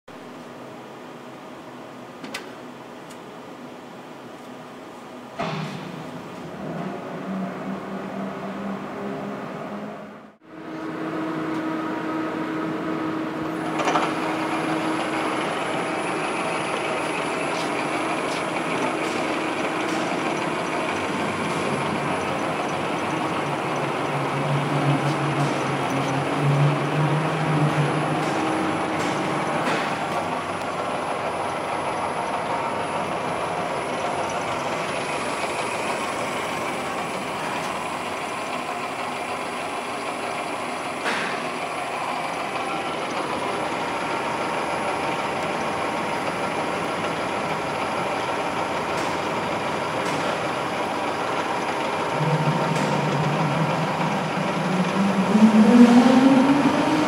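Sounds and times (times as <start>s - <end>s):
low motor whine: 0.2s - 48.8s, 50.5s - 57.0s
milling machine running: 10.9s - 57.0s.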